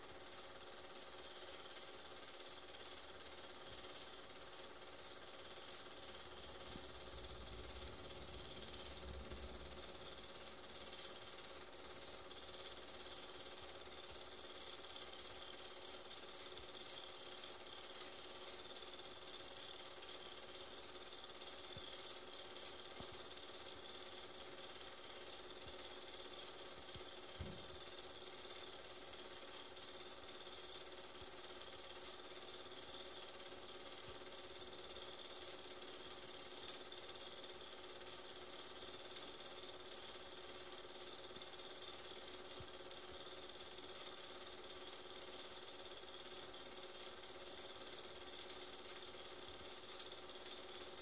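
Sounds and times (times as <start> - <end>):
film projector clattering: 0.0 - 51.0
projector hum: 0.0 - 51.0.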